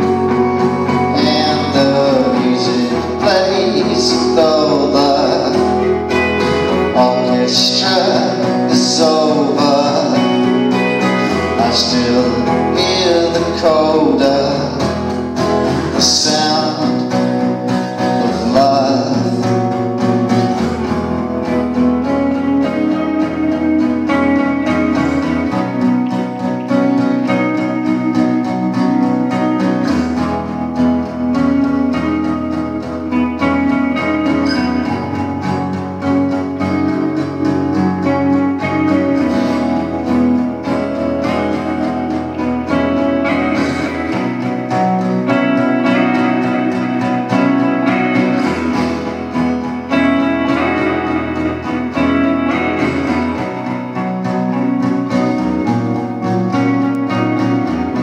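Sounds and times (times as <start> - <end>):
acoustic guitar strumming chords: 0.0 - 58.0
sustained electric guitar notes: 0.0 - 58.0.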